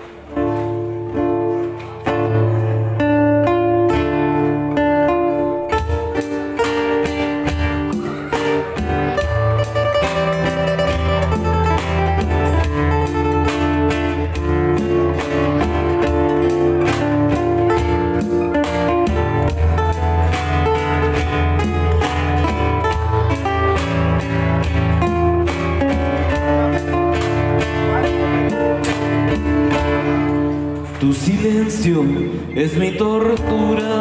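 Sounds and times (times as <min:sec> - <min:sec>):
two acoustic guitars playing: 0:00.0 - 0:34.0.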